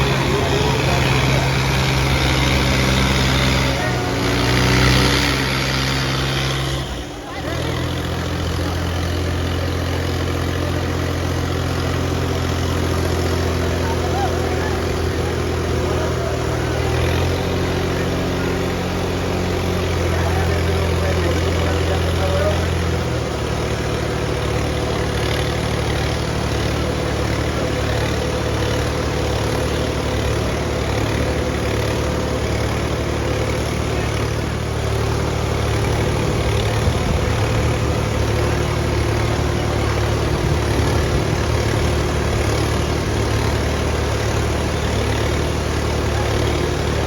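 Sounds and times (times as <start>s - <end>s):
diesel tractor engine running: 0.0s - 47.0s.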